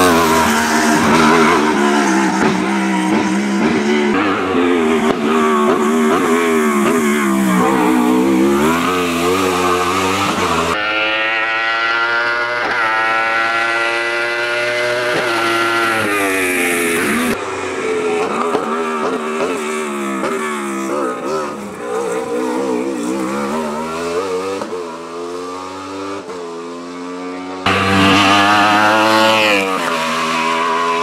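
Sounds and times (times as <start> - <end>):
racing car engine revving: 0.0 - 31.0.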